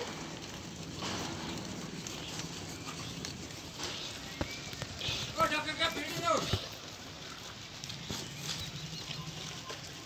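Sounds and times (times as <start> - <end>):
hooves clicking on pavement: 0.0 - 10.0.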